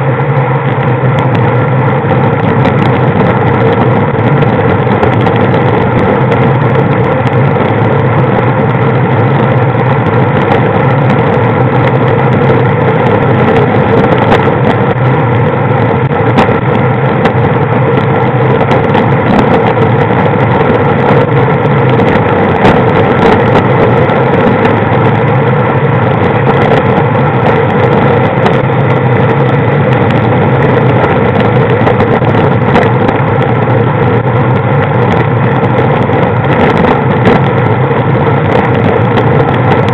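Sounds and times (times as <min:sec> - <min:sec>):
road and wind noise: 0:00.0 - 0:39.9
vehicle engine cruising: 0:00.0 - 0:39.9.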